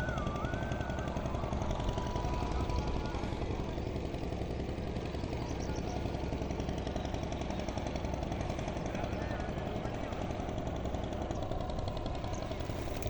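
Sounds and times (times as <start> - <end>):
engine running with fast chatter: 0.0 - 13.0.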